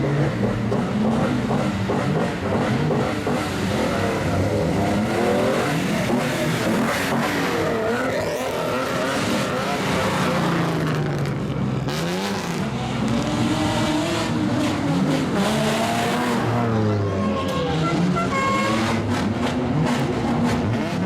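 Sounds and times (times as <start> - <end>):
car exhausts revving: 0.0 - 21.0.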